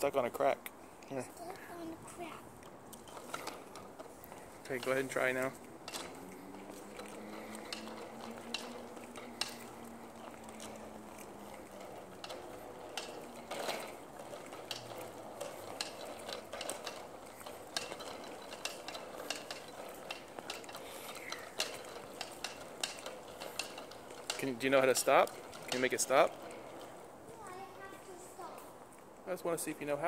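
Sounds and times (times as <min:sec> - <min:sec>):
bicycle rolling over concrete: 0:00.0 - 0:30.0.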